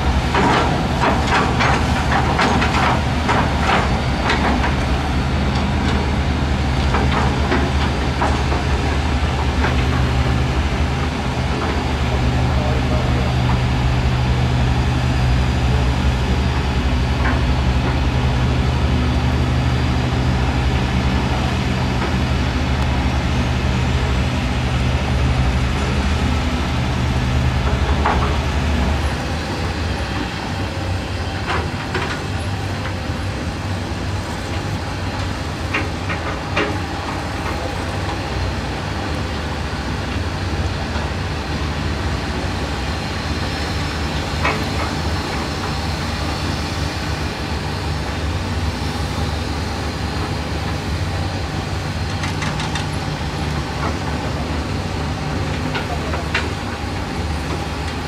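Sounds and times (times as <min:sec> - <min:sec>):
excavator diesel engines: 0:00.0 - 0:58.0.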